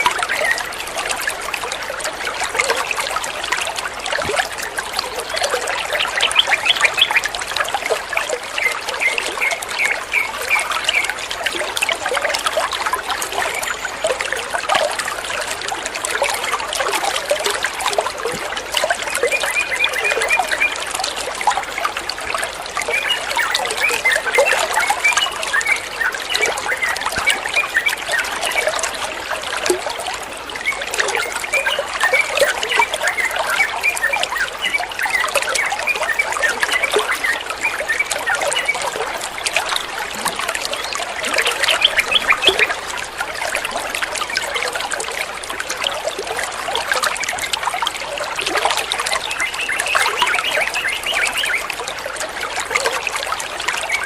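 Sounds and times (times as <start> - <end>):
water trickling and bubbling: 0.0 - 54.0.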